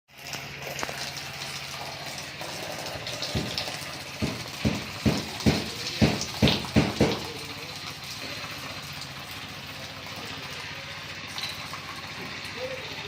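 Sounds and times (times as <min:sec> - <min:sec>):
milk squirting into a pail: 0:00.1 - 0:13.0.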